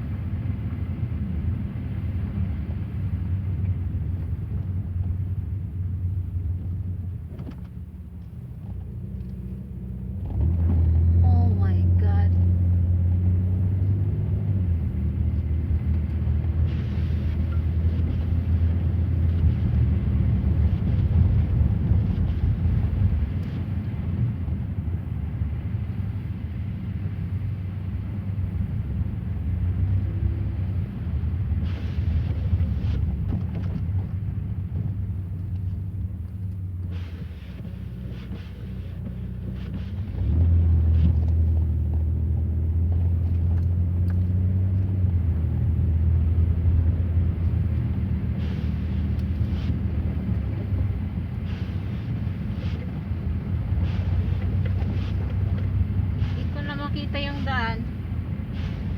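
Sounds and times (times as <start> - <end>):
car engine and tyres rumbling: 0.0 - 58.9.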